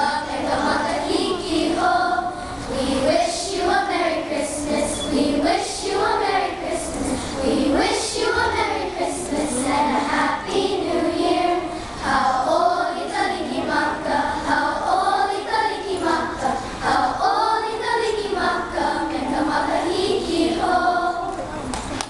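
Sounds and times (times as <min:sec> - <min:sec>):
children singing in unison: 0:00.0 - 0:21.3.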